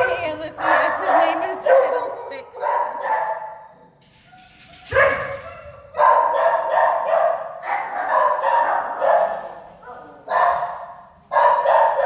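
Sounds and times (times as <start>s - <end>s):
dogs barking: 0.0s - 4.0s, 4.8s - 12.0s.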